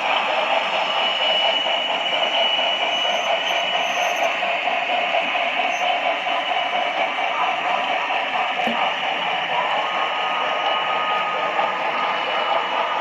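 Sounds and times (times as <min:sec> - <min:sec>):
model train whirring: 0:00.0 - 0:13.0.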